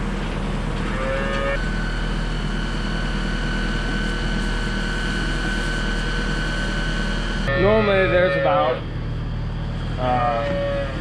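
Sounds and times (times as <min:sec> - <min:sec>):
motor humming and whining: 0:00.0 - 0:11.0.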